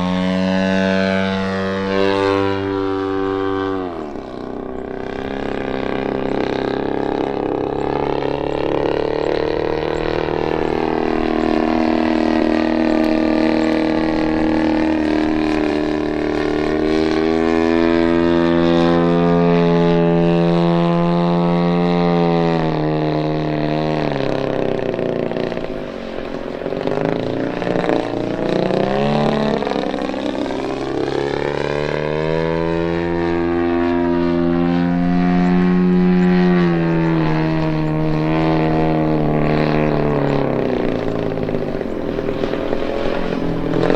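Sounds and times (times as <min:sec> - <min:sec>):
model plane engine and propeller: 0:00.0 - 0:43.9.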